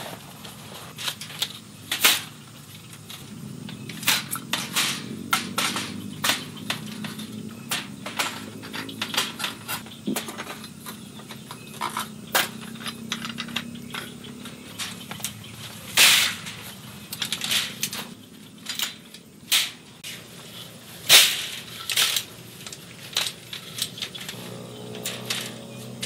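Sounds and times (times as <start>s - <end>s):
metal poles clicking and clattering: 0.4s - 26.0s.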